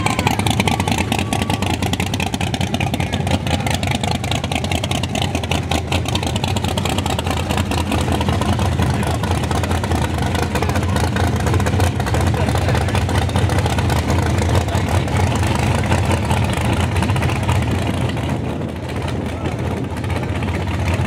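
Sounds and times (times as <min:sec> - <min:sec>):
race engine idling loudly: 0:00.0 - 0:21.0.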